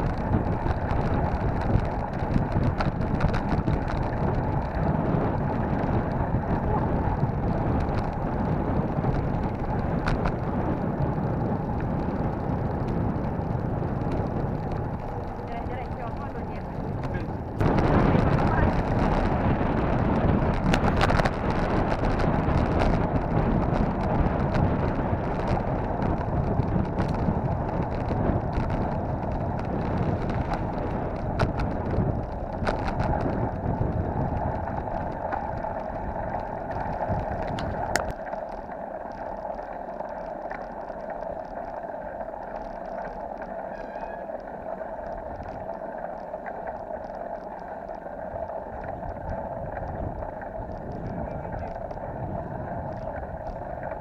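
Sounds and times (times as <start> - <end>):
wind rushing over microphone: 0.0 - 38.6, 41.2 - 54.0.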